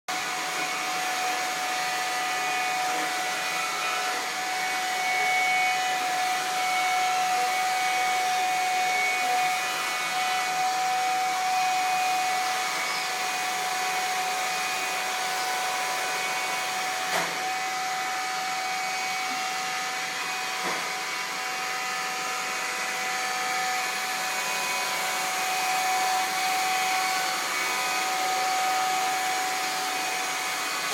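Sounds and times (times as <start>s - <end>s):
robot vacuum cleaner running: 0.1s - 30.9s.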